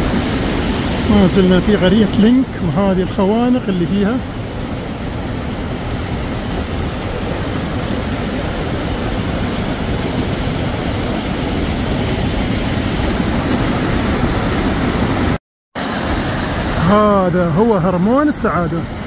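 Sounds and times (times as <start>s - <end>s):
stream rushing over boulders: 0.0s - 19.0s.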